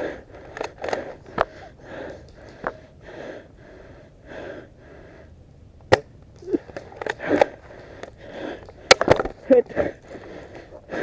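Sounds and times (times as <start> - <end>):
person breathing hard: 0.0 - 5.4, 6.4 - 9.0, 9.6 - 11.0.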